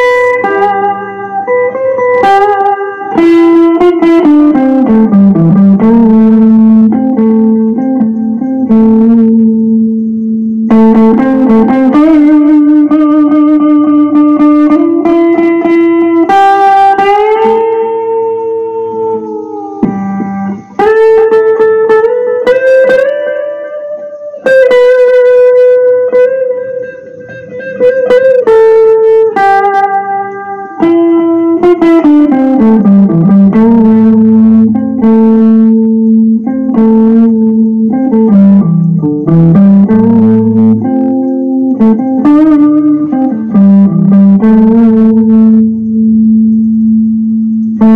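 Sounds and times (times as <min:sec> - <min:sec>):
electric guitar lead: 0:00.0 - 0:47.9.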